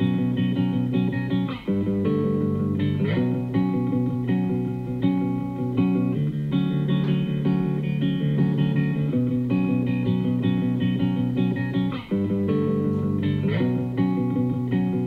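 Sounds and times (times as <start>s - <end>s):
guitar music over speaker: 0.0s - 15.0s.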